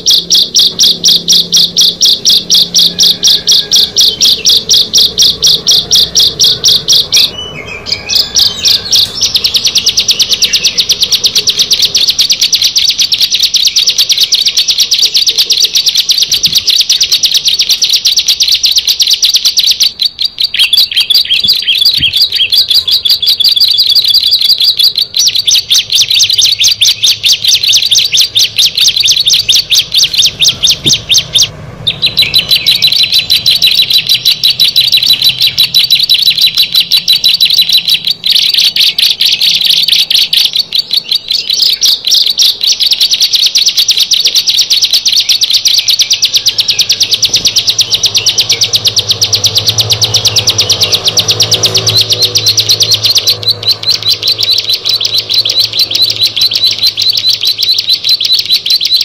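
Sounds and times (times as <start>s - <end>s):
rapid high-pitched birdsong: 0.0s - 59.0s.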